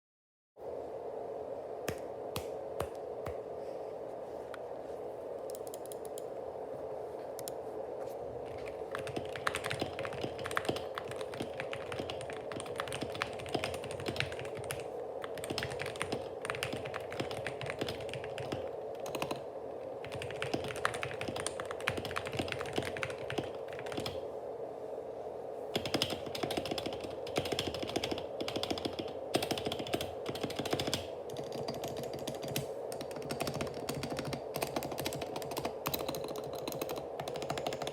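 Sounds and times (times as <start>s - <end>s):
steady hum: 0.6s - 37.9s.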